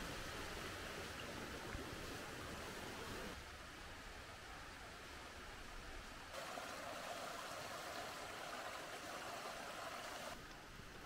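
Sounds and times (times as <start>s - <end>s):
mountain stream running: 0.0s - 11.0s.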